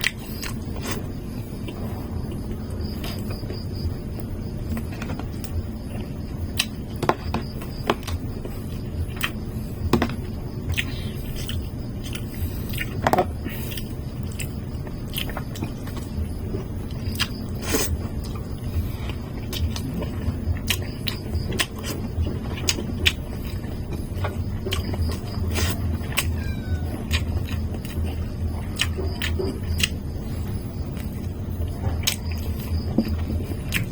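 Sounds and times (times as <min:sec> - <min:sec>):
person chewing food: 0:00.0 - 0:33.9
steady low hum: 0:00.0 - 0:33.9.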